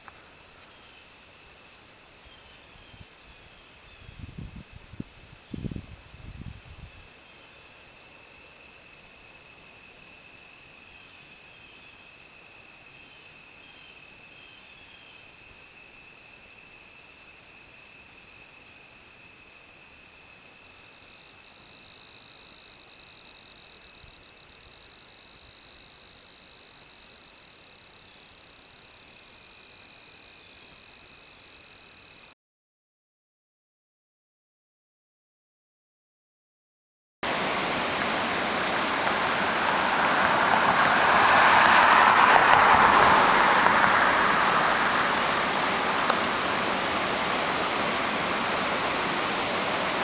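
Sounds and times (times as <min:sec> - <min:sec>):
insects trilling: 0:00.0 - 0:32.3, 0:37.3 - 0:50.0.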